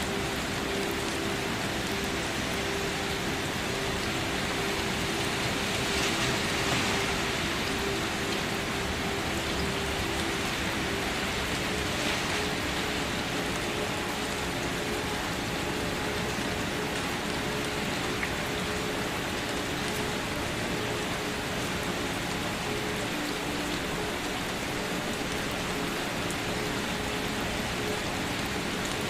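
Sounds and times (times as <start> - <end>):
faint steady tone: 0.0 - 29.0
steady rain falling: 0.0 - 29.0.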